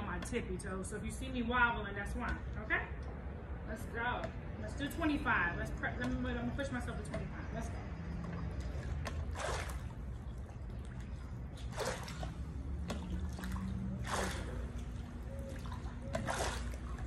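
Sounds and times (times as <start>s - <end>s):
pool water splashing: 3.1s - 17.0s.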